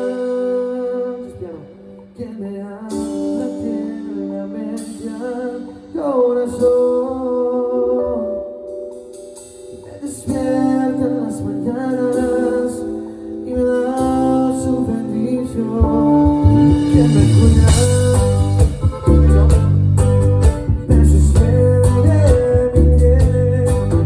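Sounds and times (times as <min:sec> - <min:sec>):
live band with singer: 0:00.0 - 0:24.0.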